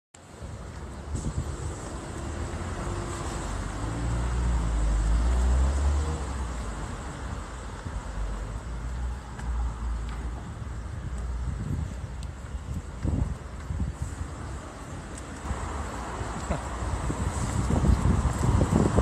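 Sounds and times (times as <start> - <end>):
vehicle passing on road: 0.8 - 12.0, 12.6 - 19.0.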